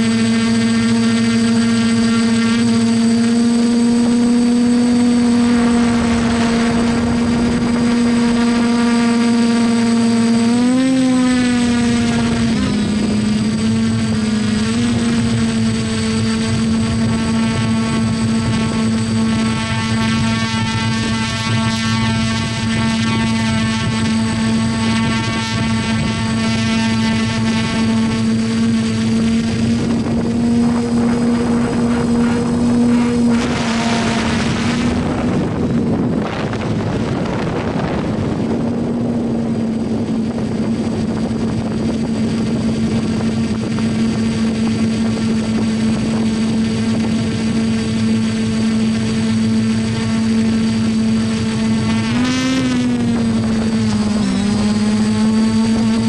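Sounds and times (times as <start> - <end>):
drone motors and propellers humming: 0.0 - 56.0.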